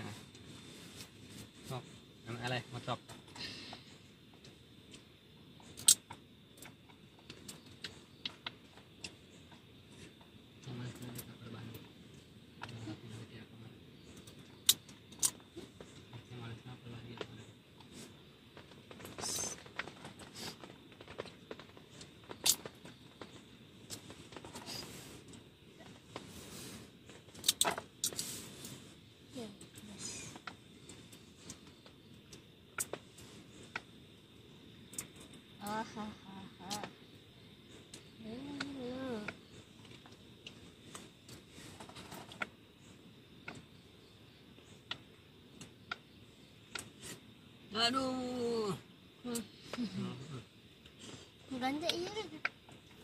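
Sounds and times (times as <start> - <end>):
faint hiss: 0.0 - 53.0.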